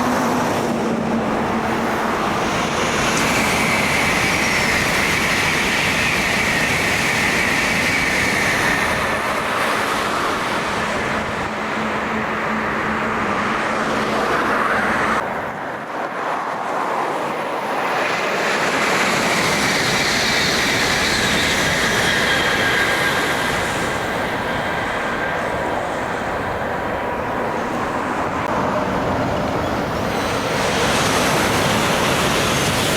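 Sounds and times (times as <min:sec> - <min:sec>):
high-speed train passing: 0:00.0 - 0:32.9.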